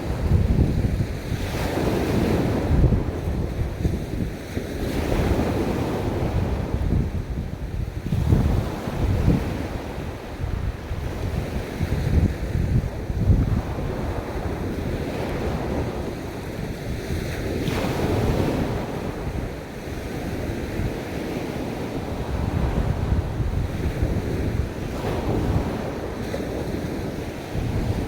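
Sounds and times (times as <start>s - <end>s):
ocean waves washing onto beach: 0.0s - 28.0s
wind buffeting microphone: 0.0s - 28.0s.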